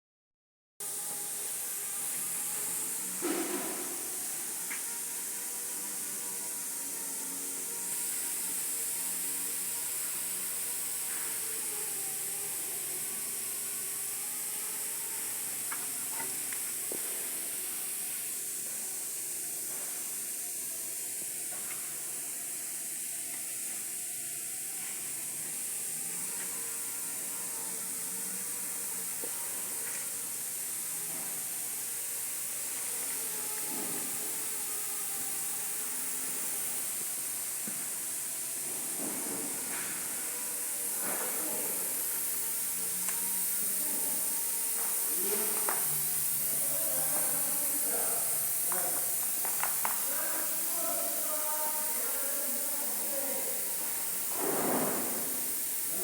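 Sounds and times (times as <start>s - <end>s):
high-pitched hiss: 0.8s - 56.0s.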